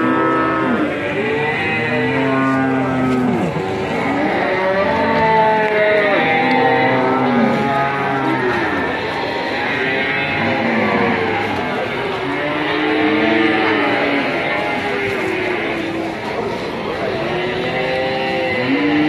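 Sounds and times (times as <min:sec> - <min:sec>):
cattle mooing: 0:00.0 - 0:16.0, 0:17.1 - 0:19.0.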